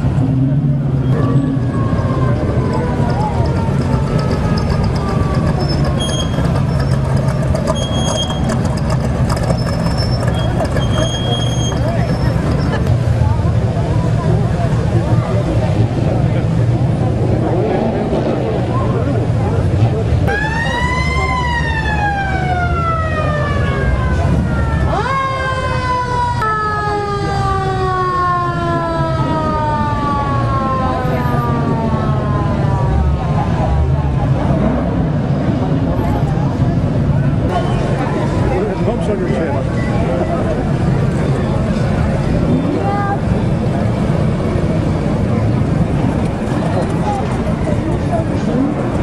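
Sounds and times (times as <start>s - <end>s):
hot rod engine low rumble: 0.0s - 49.0s.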